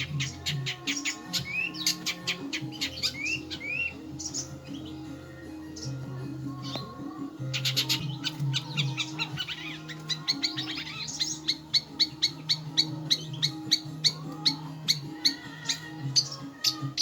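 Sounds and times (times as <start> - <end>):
bird chirping: 0.0 - 17.0
sharp bird calls: 0.0 - 17.0.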